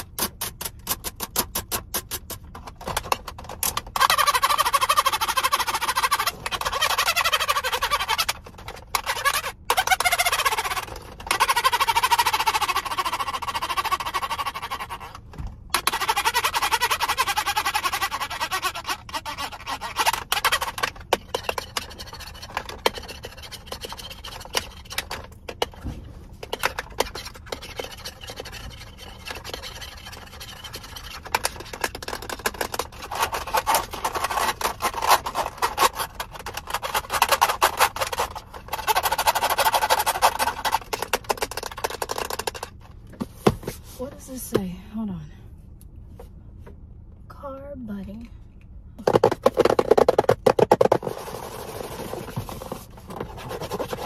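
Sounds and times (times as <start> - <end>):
fingernails scratching on plastic: 0.0 - 42.8, 49.1 - 54.0.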